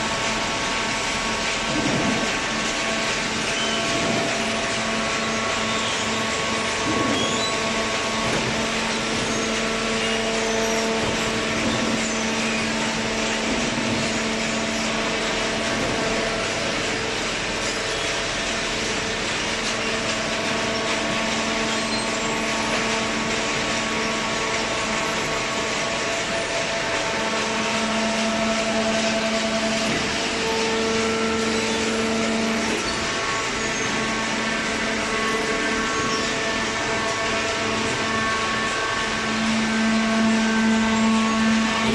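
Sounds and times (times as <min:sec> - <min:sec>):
baler mechanical drone: 0:00.0 - 0:41.9.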